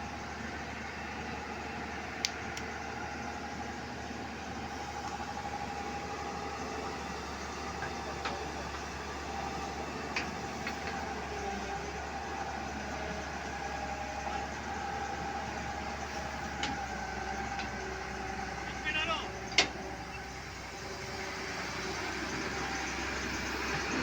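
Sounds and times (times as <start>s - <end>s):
heavy engine humming: 0.0s - 24.0s.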